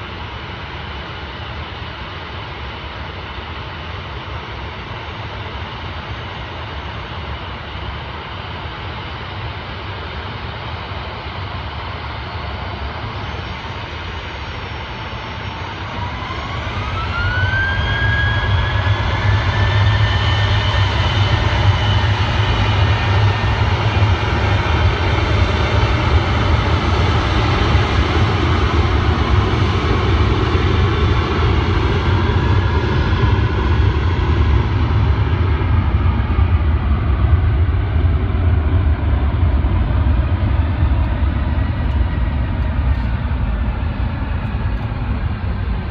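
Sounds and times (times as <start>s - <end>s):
jet engines spooling up: 0.1s - 45.9s.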